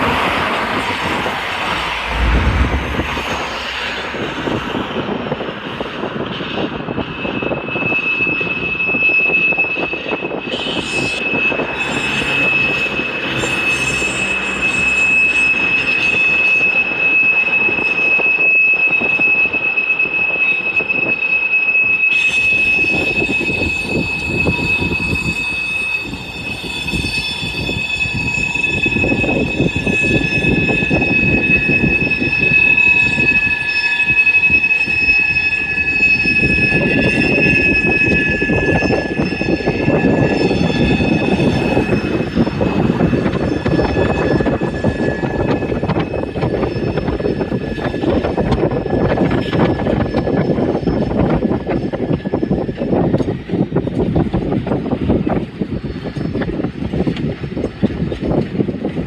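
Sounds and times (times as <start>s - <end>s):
rumble and clatter of rolling cars: 0.0s - 59.0s
train wheels squealing on rails: 0.0s - 59.0s.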